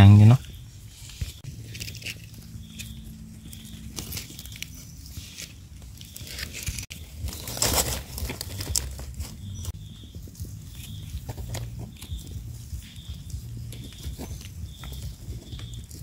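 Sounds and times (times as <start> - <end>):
dry leaves rustling by hand: 0.1 - 16.0.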